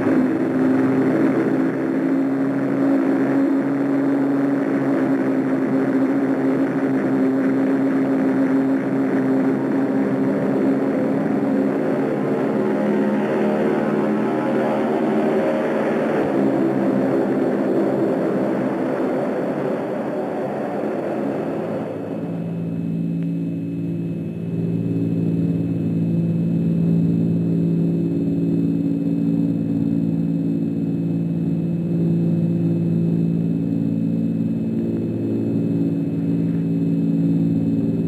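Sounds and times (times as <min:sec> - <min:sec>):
propeller airliner engines droning: 0:00.0 - 0:38.0.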